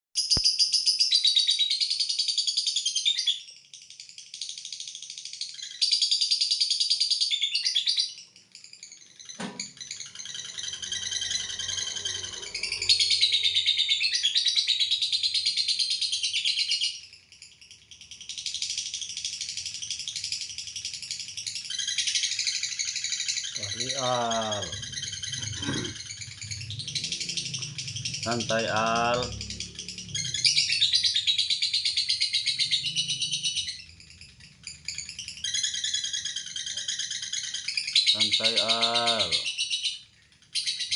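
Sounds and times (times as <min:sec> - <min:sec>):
lovebird shrill chattering trill: 0:05.4 - 0:17.2, 0:18.2 - 0:40.9.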